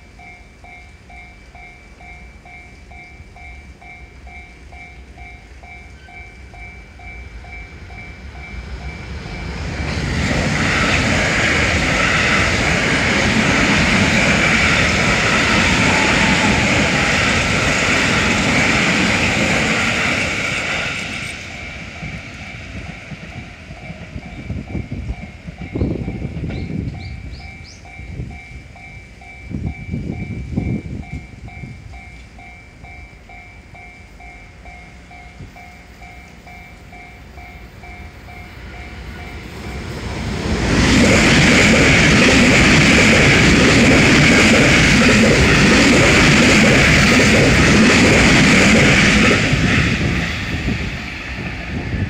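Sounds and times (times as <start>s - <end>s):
train passing: 0.0s - 52.0s.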